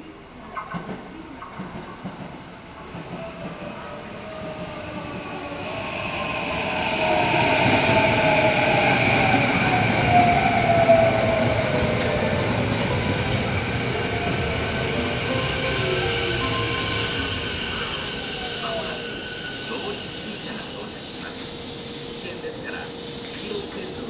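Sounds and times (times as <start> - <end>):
train wheels rushing: 0.8 - 24.0.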